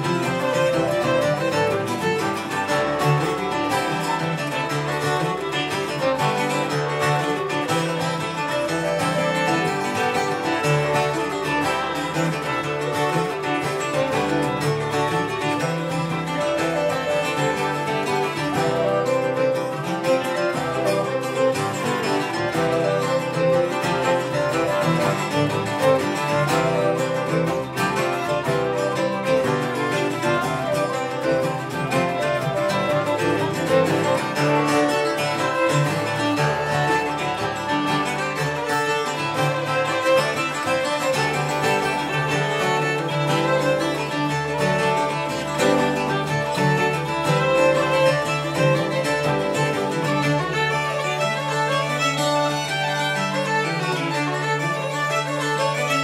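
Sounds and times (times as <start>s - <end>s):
bagpipes playing melody: 0.0s - 56.0s
fiddle: 0.0s - 56.0s
strings strumming rhythm: 0.0s - 56.0s
traditional folk music: 0.0s - 56.0s.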